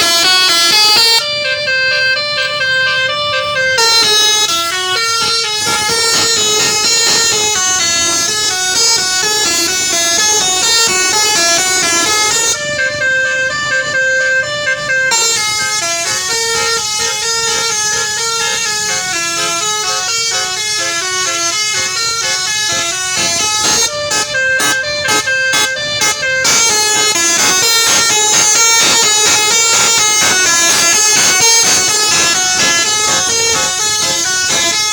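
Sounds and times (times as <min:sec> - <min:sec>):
musical air horn melody: 0:00.0 - 0:34.9.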